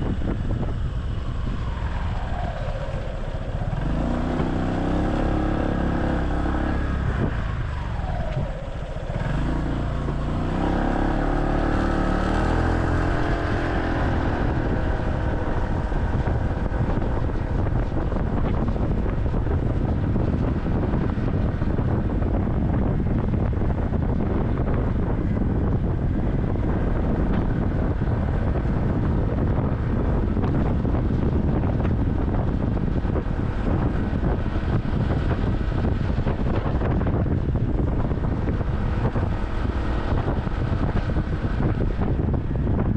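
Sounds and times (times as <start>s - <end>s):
motorcycle engine: 0.0s - 42.9s
road rumble: 0.0s - 42.9s
wind buffeting microphone: 0.0s - 42.9s.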